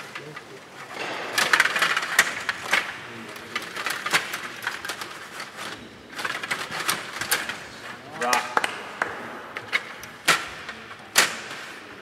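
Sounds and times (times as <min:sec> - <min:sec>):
table hockey pieces clacking: 0:00.0 - 0:11.8.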